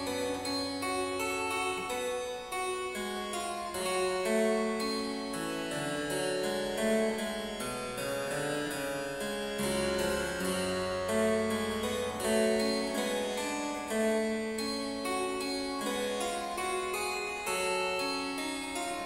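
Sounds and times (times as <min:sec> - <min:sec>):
harpsichord notes and chords: 0:00.0 - 0:19.0.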